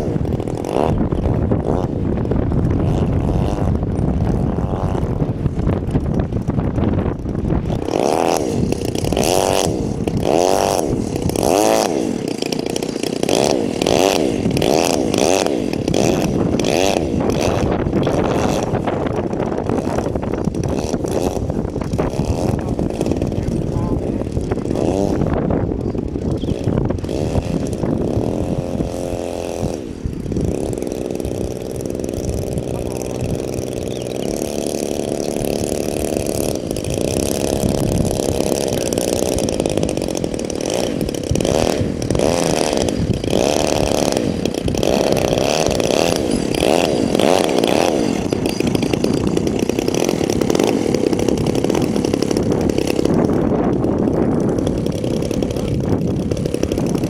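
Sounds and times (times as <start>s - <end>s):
model airplane motor buzzing: 0.0s - 57.0s
wind buffeting microphone: 0.0s - 57.0s.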